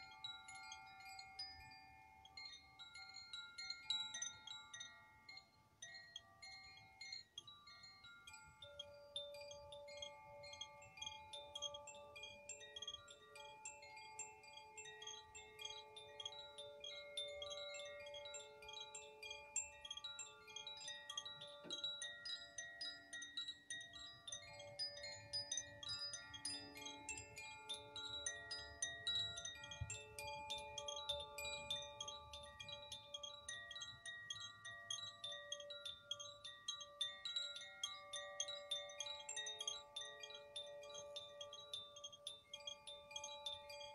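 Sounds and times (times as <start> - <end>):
metal chimes tinkling: 0.0 - 43.9.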